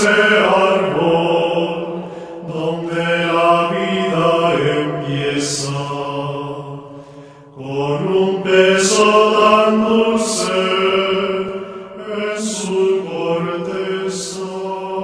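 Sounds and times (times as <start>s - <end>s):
men singing chant: 0.0s - 6.9s, 7.6s - 15.0s.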